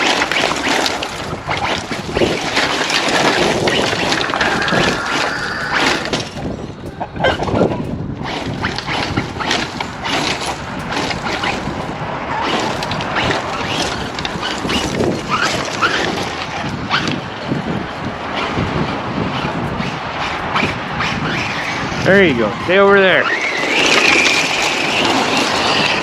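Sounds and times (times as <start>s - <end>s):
rc buggy motor whining: 0.0s - 26.0s
wind on microphone: 0.0s - 26.0s.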